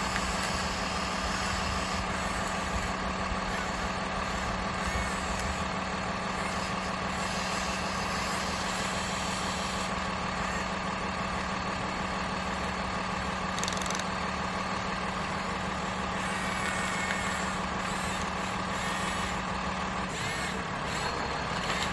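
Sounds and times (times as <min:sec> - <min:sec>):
toy machine motor humming and whining: 0:00.0 - 0:21.9.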